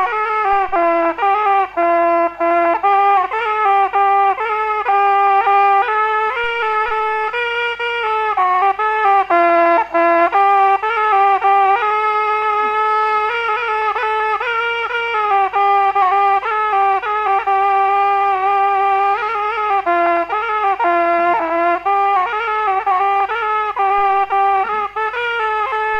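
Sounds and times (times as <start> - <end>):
wind instrument melody: 0.0 - 25.9.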